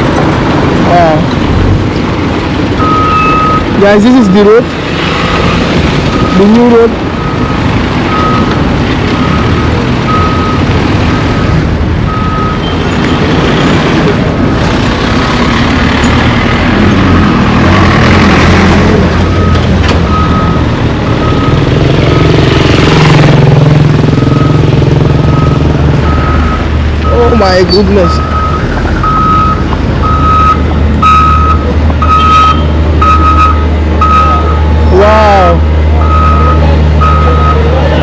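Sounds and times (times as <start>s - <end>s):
heavy machinery engine rumble: 0.0s - 38.0s
reversing alarm beeping: 2.8s - 13.6s, 16.0s - 23.4s, 24.1s - 35.0s, 36.0s - 37.8s.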